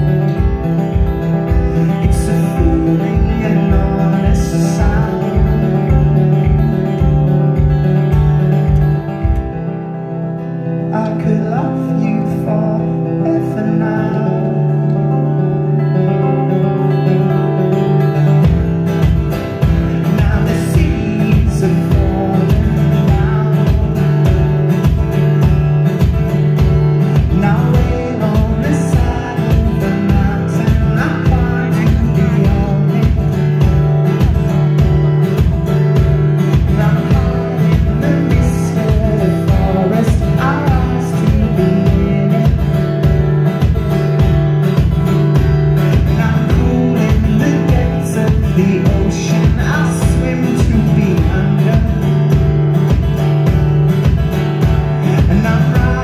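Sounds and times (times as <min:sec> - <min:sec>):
acoustic guitar strumming: 0:00.0 - 0:56.0
kick drum beat: 0:00.3 - 0:09.6, 0:18.5 - 0:56.0.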